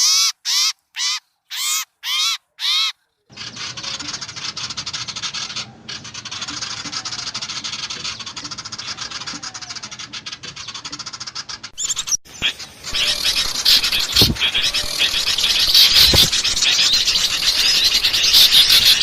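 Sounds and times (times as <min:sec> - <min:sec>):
high chirping bird calls: 0:00.0 - 0:19.0
songbirds alarm rattle: 0:00.0 - 0:19.0.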